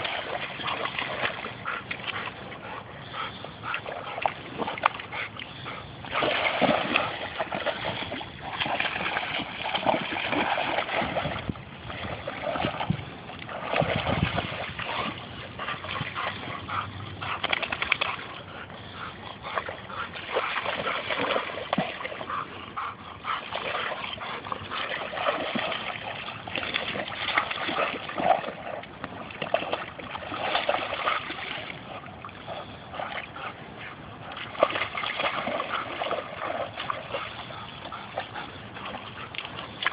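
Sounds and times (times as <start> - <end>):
dog splashing in water: 0.0 - 2.6, 3.7 - 18.4, 19.6 - 22.5, 23.4 - 33.4, 34.3 - 39.9.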